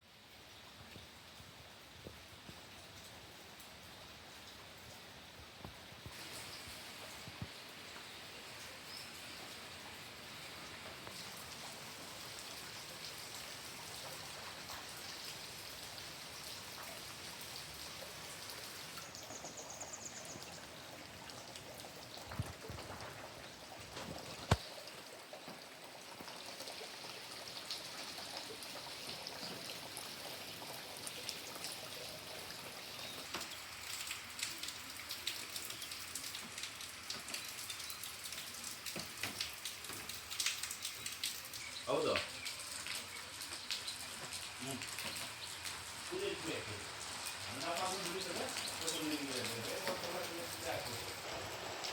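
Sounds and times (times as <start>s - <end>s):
rain pattering: 0.0s - 51.9s.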